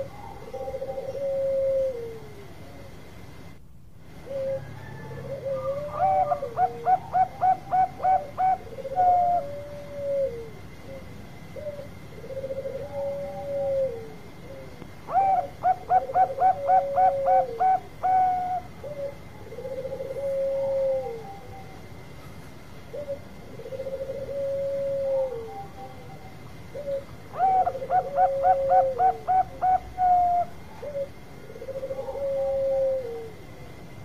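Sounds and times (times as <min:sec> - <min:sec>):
dove cooing song: 0:00.0 - 0:03.1, 0:04.1 - 0:34.0.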